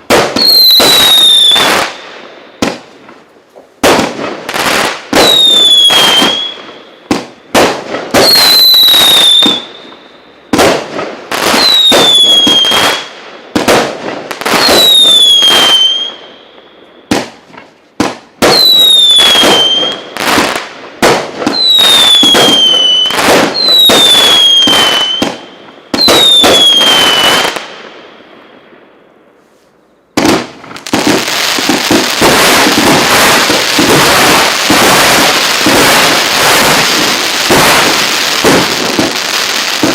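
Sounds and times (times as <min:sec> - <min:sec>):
firework whistles: 0:00.0 - 0:02.8, 0:04.6 - 0:13.2, 0:14.4 - 0:17.2, 0:18.4 - 0:20.5, 0:21.4 - 0:28.2, 0:29.5 - 0:39.9
rapid firework crackle: 0:00.0 - 0:16.1, 0:17.1 - 0:27.7, 0:30.2 - 0:39.9
firework bangs: 0:00.0 - 0:28.1, 0:30.1 - 0:39.9.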